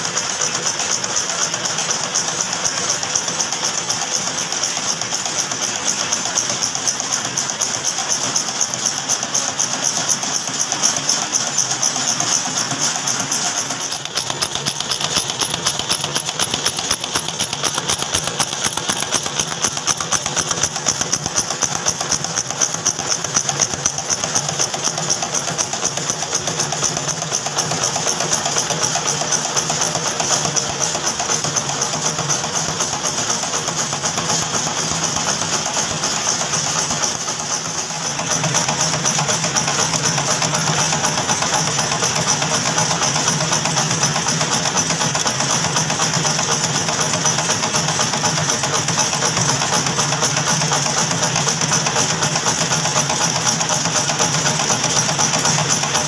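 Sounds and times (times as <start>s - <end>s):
machine mechanical clatter: 0.0s - 56.0s.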